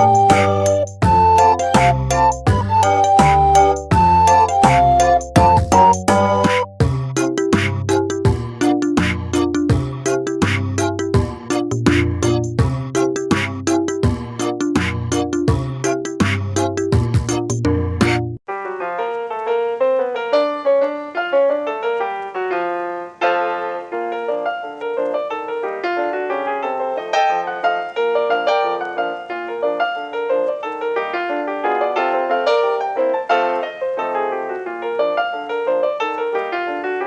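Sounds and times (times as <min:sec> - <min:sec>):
piano-like keyboard melody: 0:00.0 - 0:37.0.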